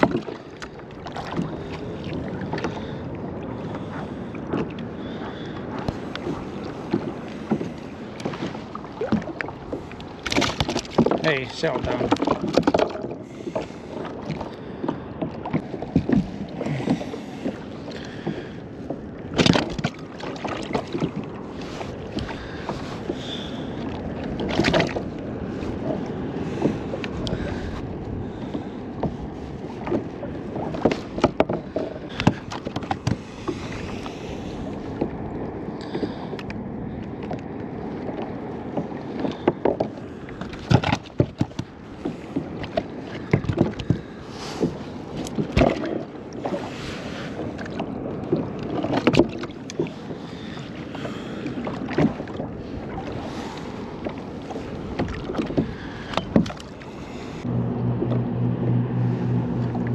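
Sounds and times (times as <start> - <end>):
water lapping against kayak: 0.0 - 59.9.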